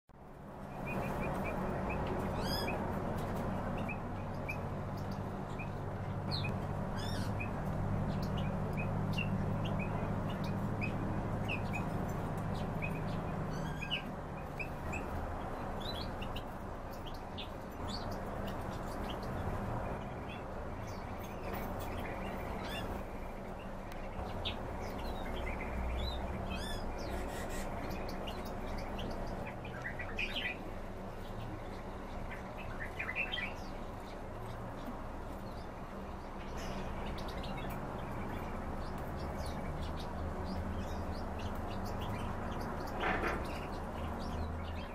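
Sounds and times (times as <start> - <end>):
small birds chirping: 0.2 - 44.9.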